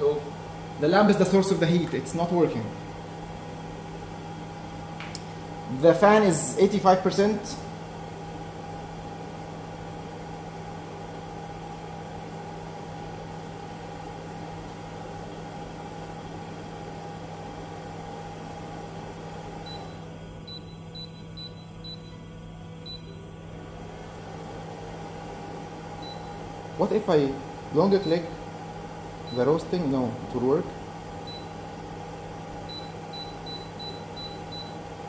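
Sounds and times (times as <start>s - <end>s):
cooling fan humming: 0.0s - 35.0s.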